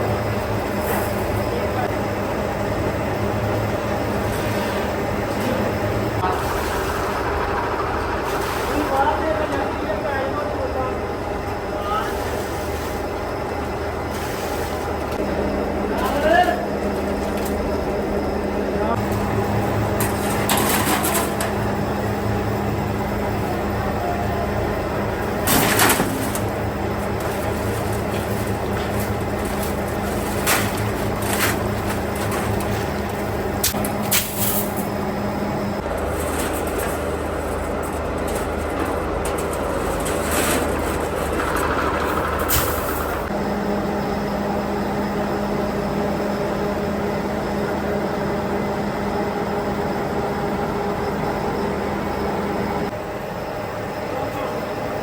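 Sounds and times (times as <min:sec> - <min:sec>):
factory machinery humming: 0:00.0 - 0:55.0.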